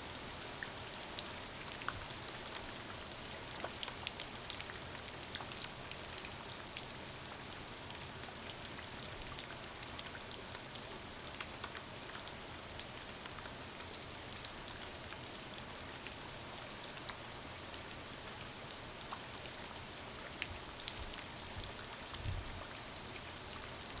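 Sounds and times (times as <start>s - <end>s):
steady rain pattering: 0.0s - 24.0s.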